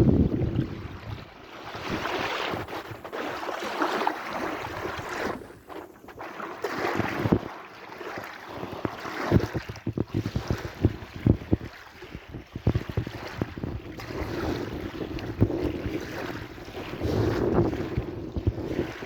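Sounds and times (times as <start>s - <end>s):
wind buffeting microphone: 0.0s - 3.4s, 4.4s - 7.6s, 8.6s - 19.0s
sea waves washing: 0.0s - 19.0s.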